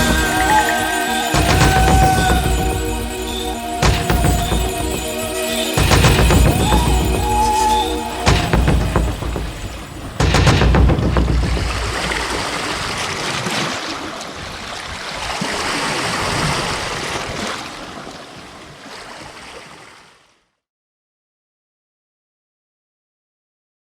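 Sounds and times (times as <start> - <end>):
sea waves washing on shore: 0.0 - 20.2.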